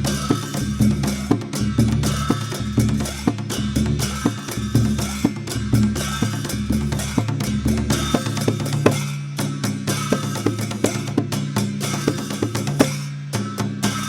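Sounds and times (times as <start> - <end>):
barrel drum rapid strokes: 0.0 - 14.0
cymbals clashing: 0.0 - 14.0.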